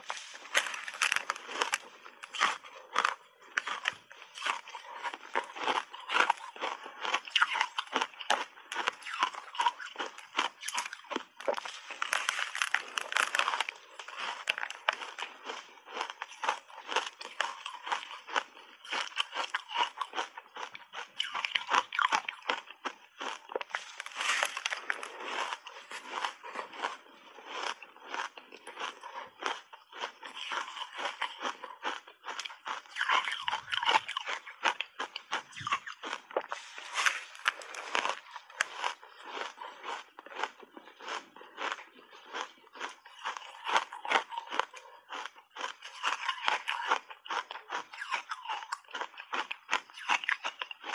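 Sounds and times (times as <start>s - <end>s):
crunchy ice chewing: 0.0s - 50.9s.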